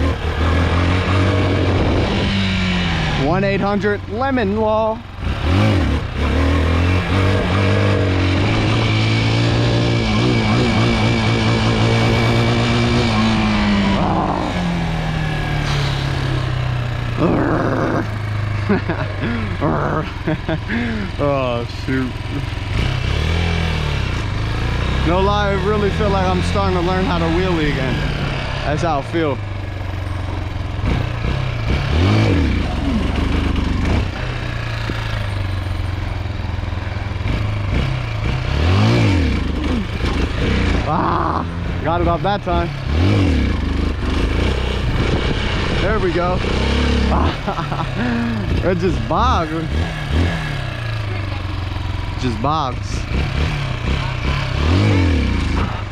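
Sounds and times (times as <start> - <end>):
dirt bike engine running: 0.0 - 55.9.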